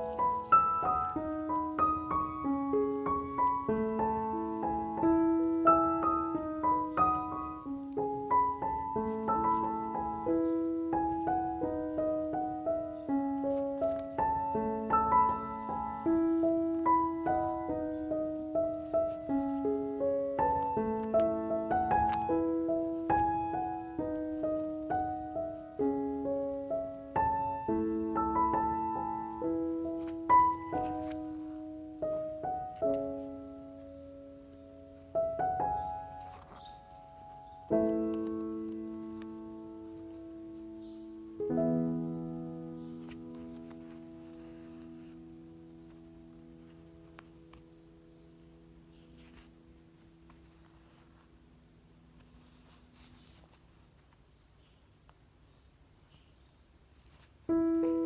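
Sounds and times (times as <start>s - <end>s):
gentle piano music: 0.0s - 53.7s, 57.1s - 58.0s.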